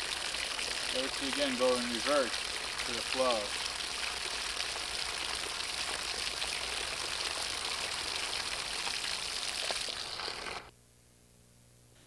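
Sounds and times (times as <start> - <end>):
water jetting from garden hose: 0.0 - 10.7.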